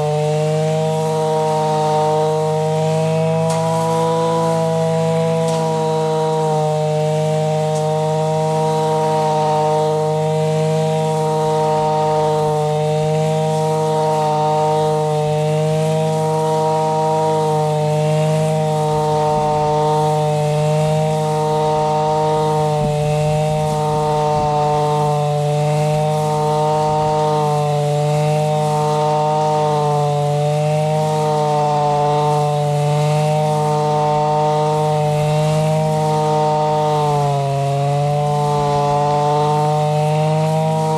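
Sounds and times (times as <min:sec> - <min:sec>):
blade cutting grass: 0:00.0 - 0:40.9
brush cutter engine running: 0:00.0 - 0:40.9.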